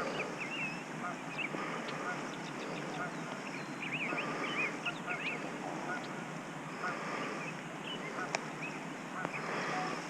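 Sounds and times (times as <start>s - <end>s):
birds chirping: 0.0s - 10.0s
steady background hiss: 0.0s - 10.0s.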